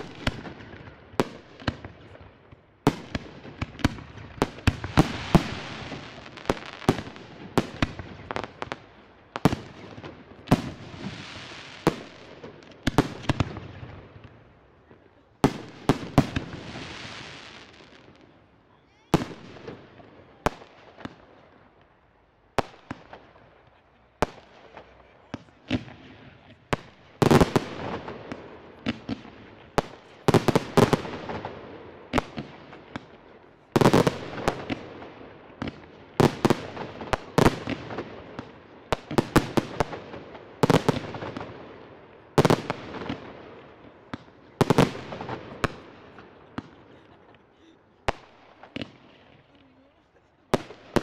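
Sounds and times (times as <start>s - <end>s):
fireworks bursting with bangs: 0.0s - 51.0s.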